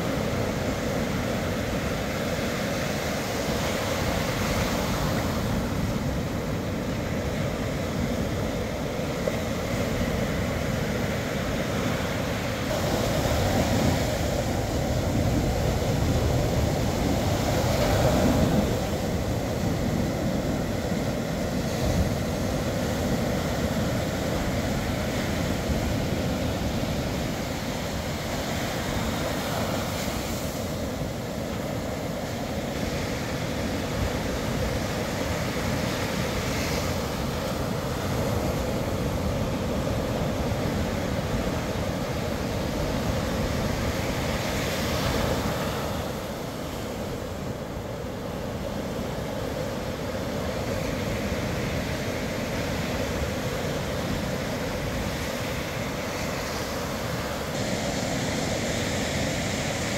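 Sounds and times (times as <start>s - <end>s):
foam washing up the shore: 0.0s - 59.9s
waves breaking on a beach: 0.0s - 59.9s.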